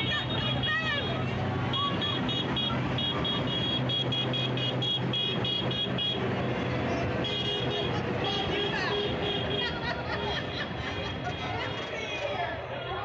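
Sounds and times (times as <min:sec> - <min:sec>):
farm machinery diesel engines: 0:00.0 - 0:13.0.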